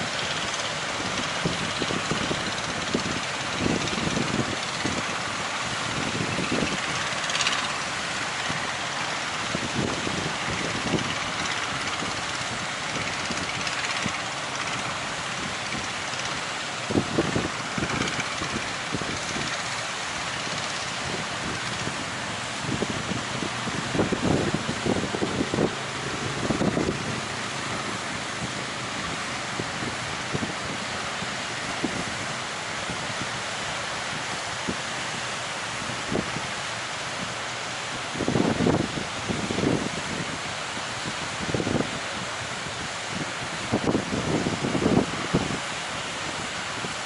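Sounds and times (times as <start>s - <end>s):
strong wind buffeting microphone: 0.0s - 35.0s, 35.6s - 47.0s
ocean surf rushing: 0.0s - 47.0s
waves breaking: 0.0s - 47.0s.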